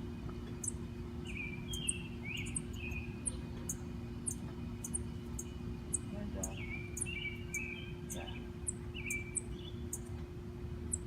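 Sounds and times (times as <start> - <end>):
sparrows chirping: 0.0 - 11.0
steady low hum: 0.0 - 11.0.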